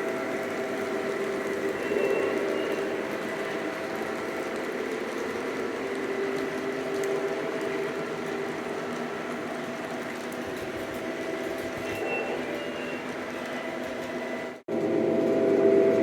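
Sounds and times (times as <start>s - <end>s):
model locomotives whirring: 0.0s - 16.0s.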